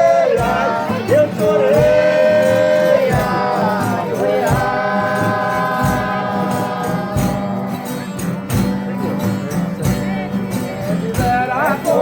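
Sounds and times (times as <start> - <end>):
group singing: 0.0 - 8.8, 10.0 - 12.0
drum thumping slow beat: 0.0 - 11.6
tambourine: 0.0 - 12.0.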